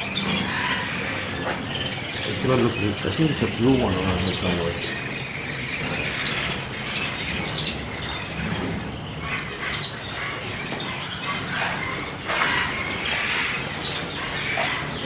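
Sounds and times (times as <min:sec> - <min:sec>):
caged birds chirping and trilling: 0:00.0 - 0:15.0.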